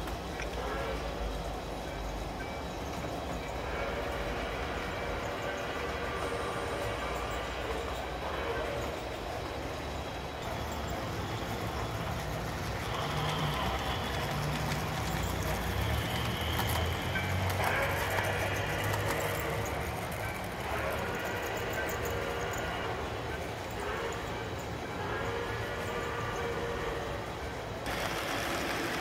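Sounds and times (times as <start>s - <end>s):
model train rolling rumble: 0.0s - 29.0s.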